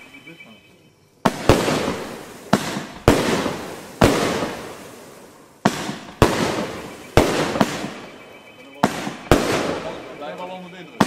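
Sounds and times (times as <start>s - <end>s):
firework bangs: 1.2s - 11.0s.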